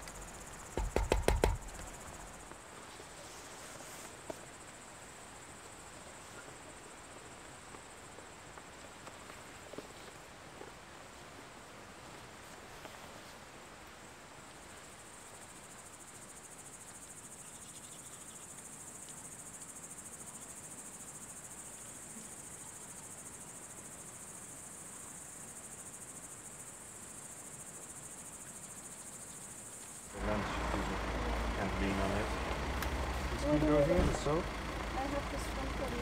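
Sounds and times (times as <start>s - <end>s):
crickets chirring: 0.0s - 12.4s, 13.4s - 36.0s.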